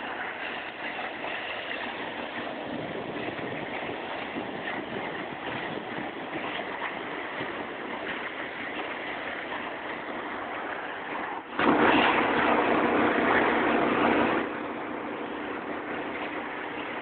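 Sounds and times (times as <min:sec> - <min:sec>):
pressure washer running: 0:00.0 - 0:17.0
rushing water hiss: 0:00.0 - 0:17.0.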